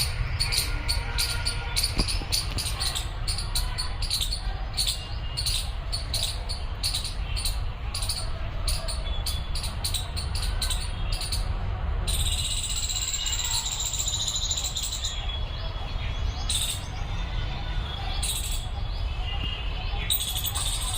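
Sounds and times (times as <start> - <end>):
small birds alarm calls: 0.0 - 20.9.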